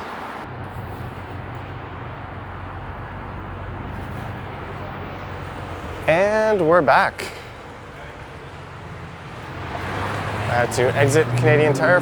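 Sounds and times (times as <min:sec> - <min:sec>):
low hum of traffic: 0:00.0 - 0:12.0.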